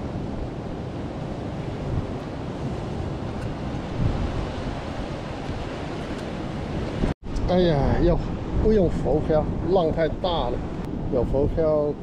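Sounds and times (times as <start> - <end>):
ocean waves breaking over rocks: 0.0 - 12.0
wind buffeting microphone: 0.0 - 12.0.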